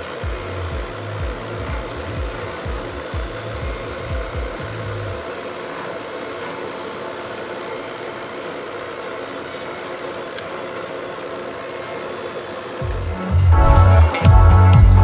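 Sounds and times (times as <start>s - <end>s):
laser cutter whirring and hissing: 0.0s - 15.0s
thin high whine: 0.0s - 15.0s.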